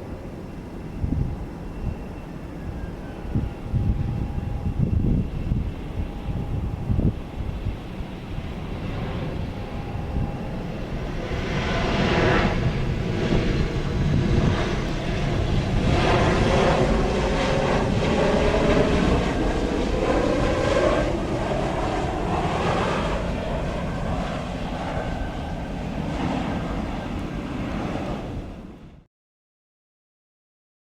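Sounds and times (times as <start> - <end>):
jet engines passing close: 0.0 - 29.1.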